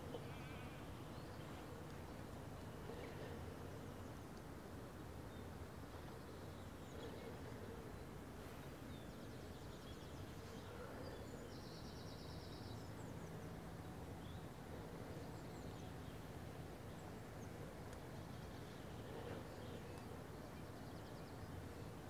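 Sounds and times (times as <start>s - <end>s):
faint songbird chirps: 0.0s - 22.0s.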